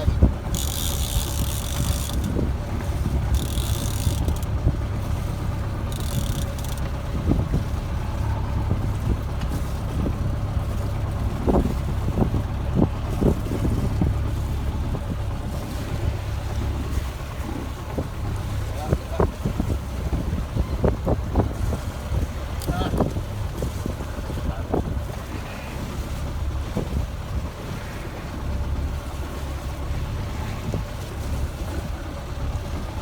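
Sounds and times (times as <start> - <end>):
low rumble aboard boat: 0.0 - 33.0.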